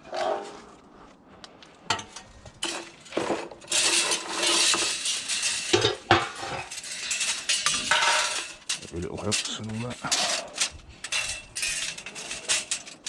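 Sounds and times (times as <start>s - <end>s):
scrap metal clinking and rattling: 1.9s - 13.0s.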